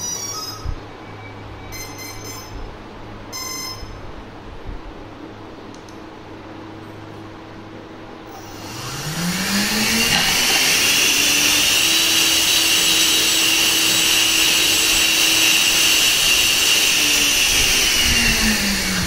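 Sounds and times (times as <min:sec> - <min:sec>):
electric ducted fan whine: 0:00.0 - 0:19.0.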